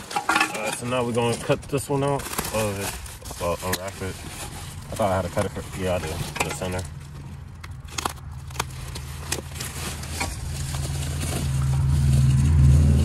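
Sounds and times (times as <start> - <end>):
plastic wrapping crinkling: 0.0 - 12.2
vehicle engine hum: 2.6 - 13.0.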